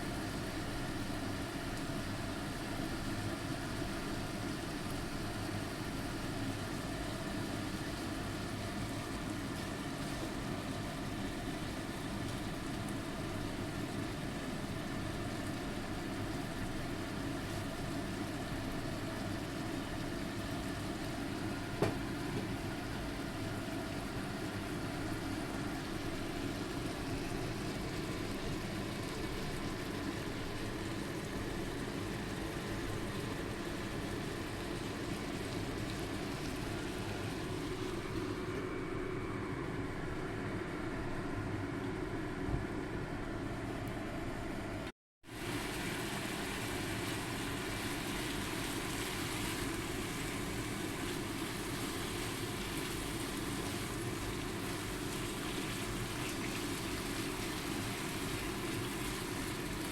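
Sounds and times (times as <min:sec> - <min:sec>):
mechanical hum and hiss: 0:00.0 - 0:59.9.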